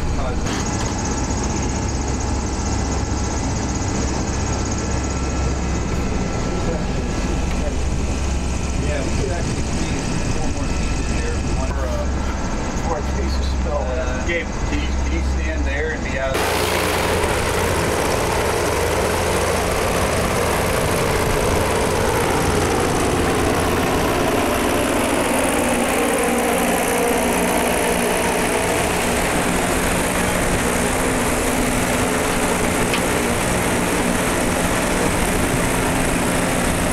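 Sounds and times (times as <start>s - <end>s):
propeller engines idling: 0.0s - 36.9s.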